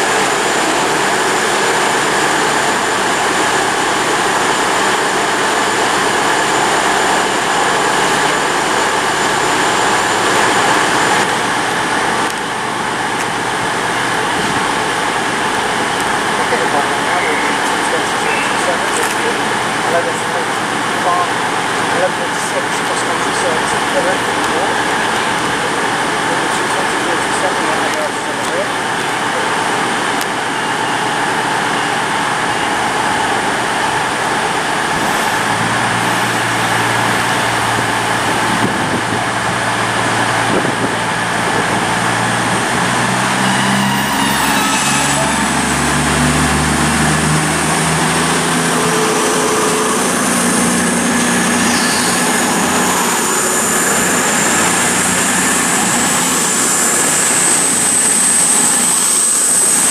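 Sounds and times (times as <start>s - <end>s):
high whine: 0.0s - 59.9s
train diesel engines running: 0.0s - 59.9s.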